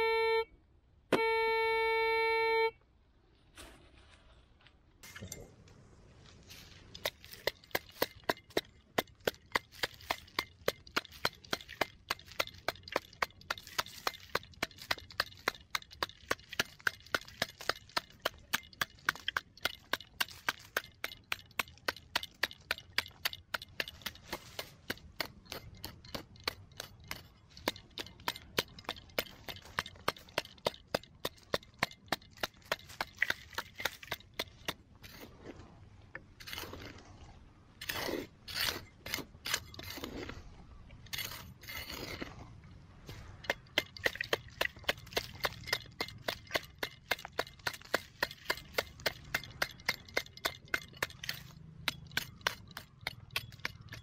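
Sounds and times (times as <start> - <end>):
shovel chopping stony soil: 6.4 - 35.6, 36.4 - 37.1, 37.8 - 40.5, 41.1 - 42.5, 43.1 - 54.0.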